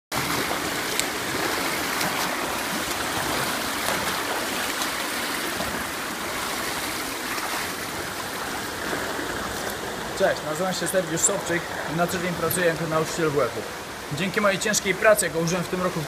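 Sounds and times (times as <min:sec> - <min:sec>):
swimmer splashing: 0:00.1 - 0:16.0
water rushing: 0:00.1 - 0:16.0.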